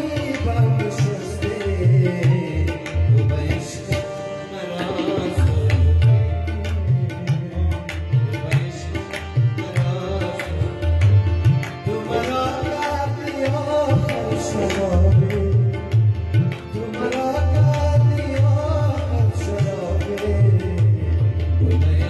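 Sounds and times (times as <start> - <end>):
harmonium melody: 0.0 - 22.0
man singing: 0.0 - 22.0
tabla drumming: 0.0 - 22.0.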